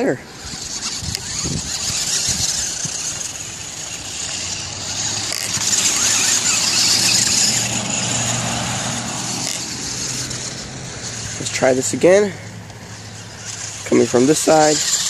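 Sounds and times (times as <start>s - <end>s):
leaves rustling under tyres: 0.0s - 15.0s
rc truck motor whining: 0.0s - 15.0s.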